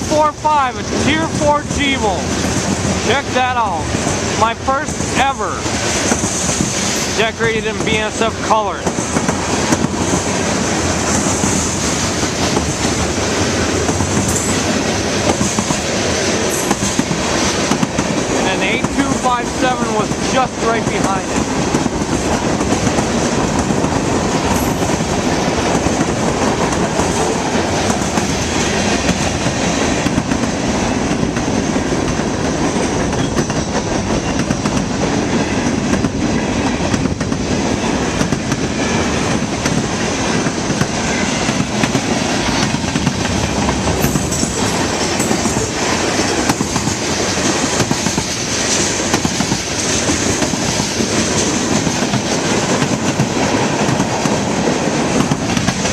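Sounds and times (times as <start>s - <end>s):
freight train rumbling past: 0.0s - 55.9s
wheels clicking over rail joints: 3.9s - 55.9s.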